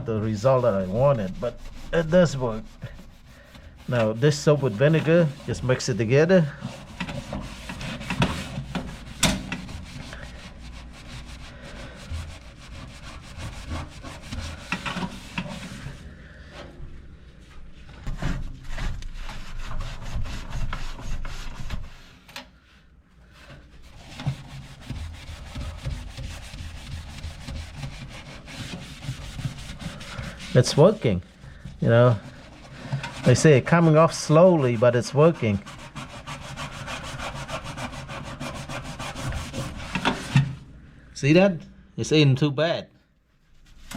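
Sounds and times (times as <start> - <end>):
hand scrubbing rasping: 0.0 - 16.1, 18.2 - 22.1, 23.2 - 40.5, 43.5 - 43.9.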